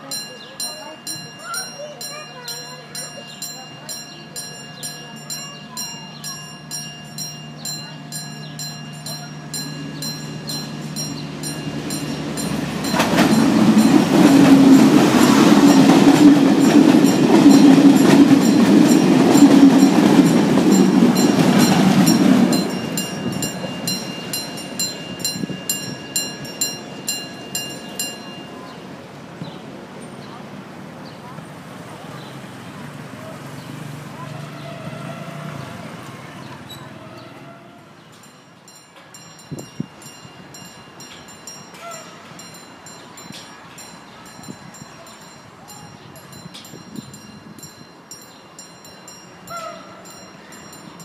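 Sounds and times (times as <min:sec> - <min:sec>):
level crossing warning bell: 0:00.0 - 0:29.4, 0:34.8 - 0:51.0
passenger train passing: 0:00.0 - 0:51.0.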